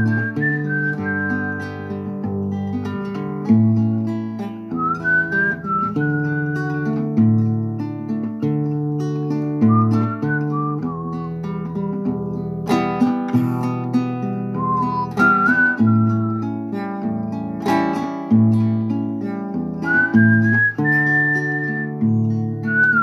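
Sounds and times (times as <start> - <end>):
whistled melody: 0.0 - 3.2, 4.4 - 7.5, 9.3 - 23.0
acoustic guitar: 0.0 - 23.0.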